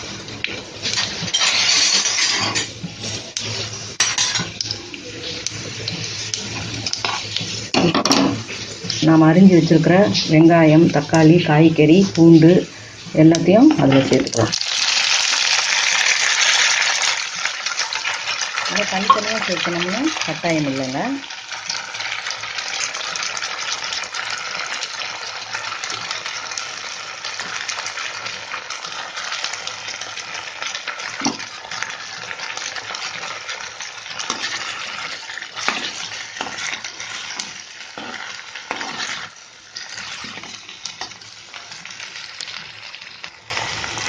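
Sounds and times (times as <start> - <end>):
vegetables sizzling in oil: 0.0 - 44.0.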